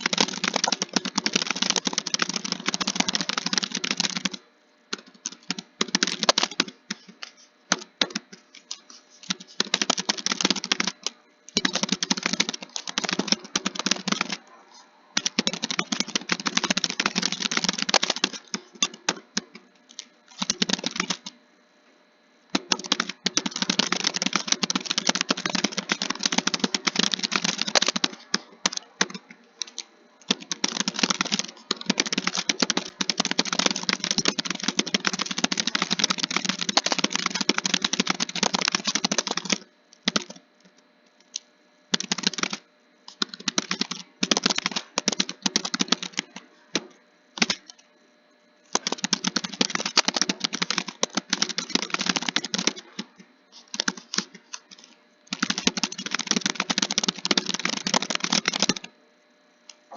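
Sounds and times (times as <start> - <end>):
computer keyboard typing: 0.0 - 21.4, 22.5 - 40.4, 41.2 - 47.8, 48.7 - 58.9.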